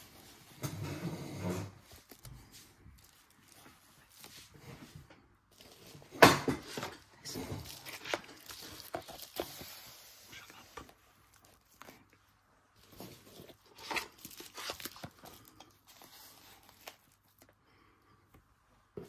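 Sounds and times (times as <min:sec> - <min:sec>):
bubble wrap crinkling: 0:00.0 - 0:17.9
packaging rustling: 0:01.7 - 0:17.6.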